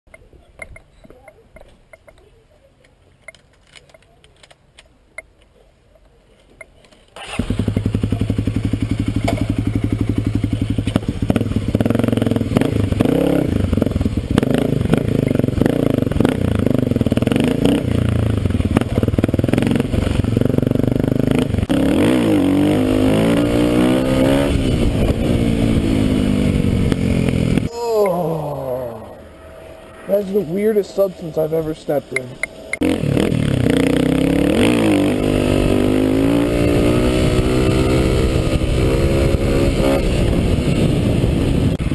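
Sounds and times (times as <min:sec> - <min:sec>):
motorcycle engine revving: 0:07.2 - 0:41.9.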